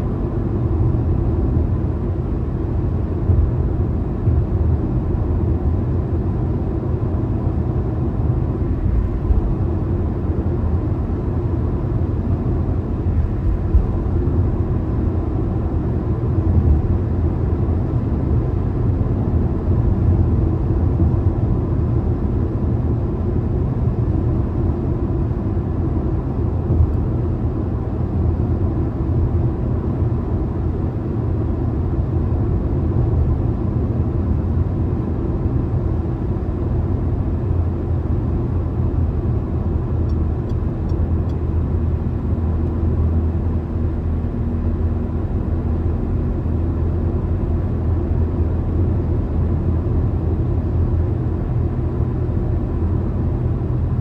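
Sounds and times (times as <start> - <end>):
car tyre and engine rumble: 0.0 - 54.0.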